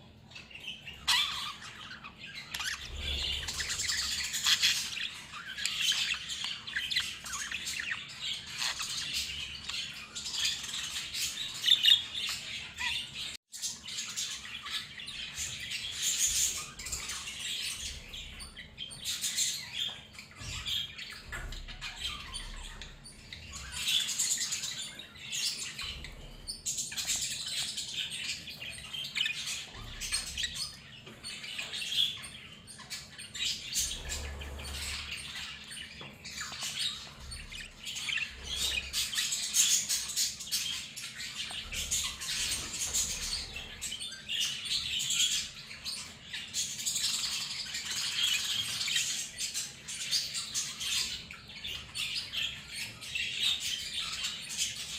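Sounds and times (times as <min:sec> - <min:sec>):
budgerigars chirping: 0:00.3 - 0:54.9.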